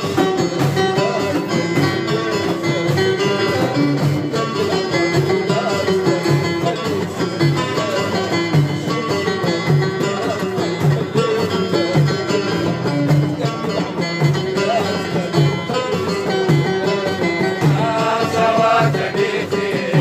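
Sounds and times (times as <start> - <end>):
plucked string instruments: 0.0 - 20.0.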